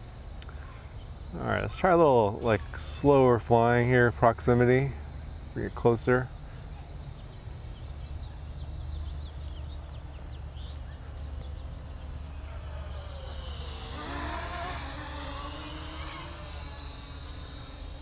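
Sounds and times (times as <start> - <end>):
toy quadcopter propellers buzzing: 0.0 - 18.0.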